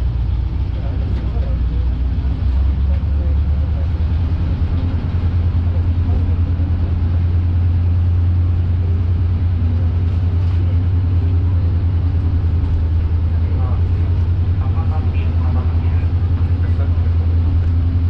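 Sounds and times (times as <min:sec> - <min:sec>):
diesel railcar engine drone: 0:00.0 - 0:18.0.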